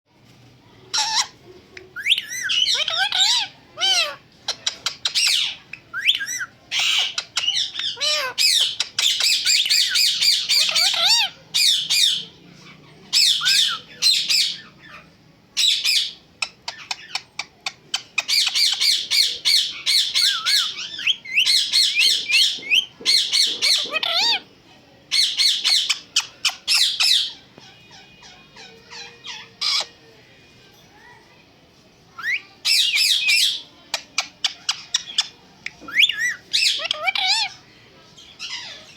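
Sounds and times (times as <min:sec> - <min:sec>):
parrot squawking and chirping: 0:00.9 - 0:24.5, 0:25.1 - 0:30.0, 0:32.2 - 0:37.6, 0:38.3 - 0:38.9.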